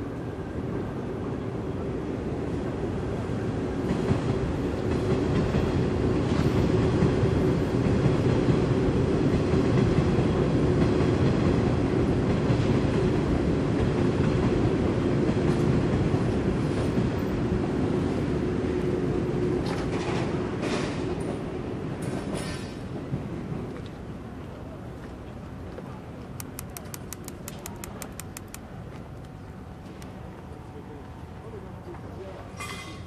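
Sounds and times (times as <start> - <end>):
train wheels on rail: 0.0 - 33.0.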